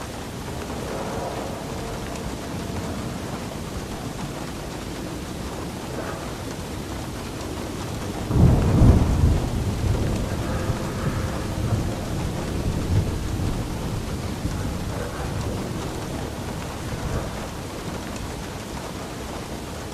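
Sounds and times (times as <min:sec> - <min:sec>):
steady rain: 0:00.0 - 0:19.9
thunder rumbling: 0:00.0 - 0:19.9.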